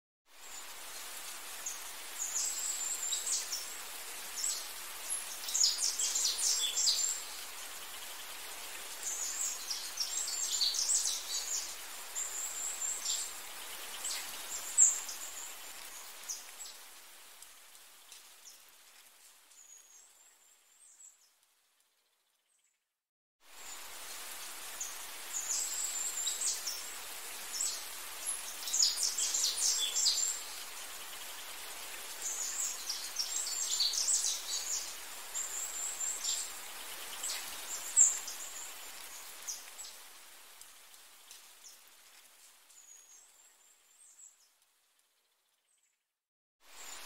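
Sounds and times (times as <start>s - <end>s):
steady hiss: 0.3s - 21.0s, 23.4s - 44.4s, 46.6s - 47.0s.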